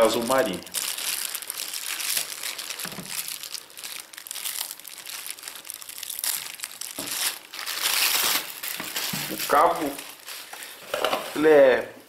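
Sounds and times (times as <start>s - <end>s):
plastic wrapping crinkling: 0.0s - 11.6s.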